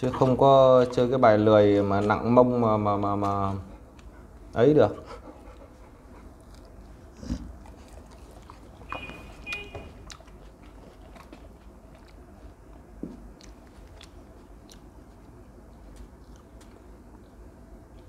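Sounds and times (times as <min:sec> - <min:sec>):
chewing fruit: 0:00.0 - 0:18.0.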